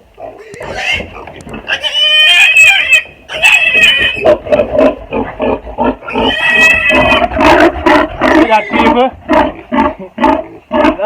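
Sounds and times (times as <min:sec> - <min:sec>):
pigs squealing and grunting: 0:00.2 - 0:11.0.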